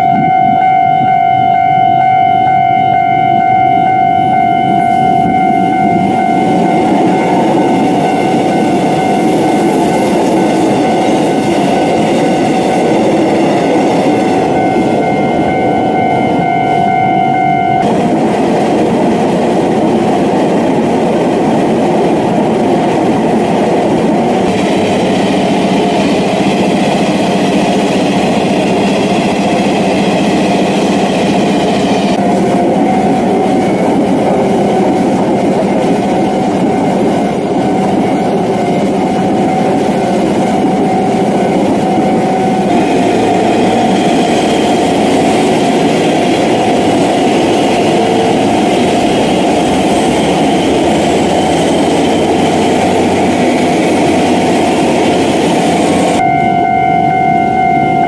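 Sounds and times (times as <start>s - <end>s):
high whine: 0.0s - 58.0s
train wheels rumbling on rails: 2.6s - 58.0s.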